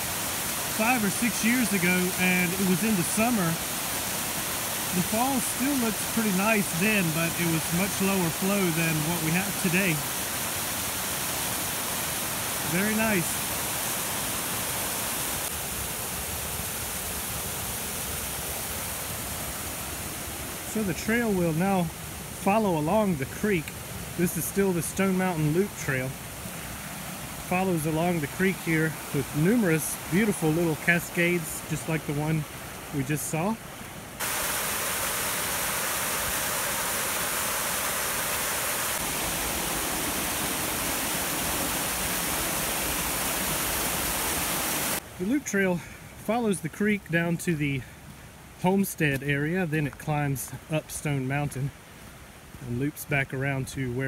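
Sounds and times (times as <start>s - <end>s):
waterfall rushing over rock: 0.0s - 53.2s.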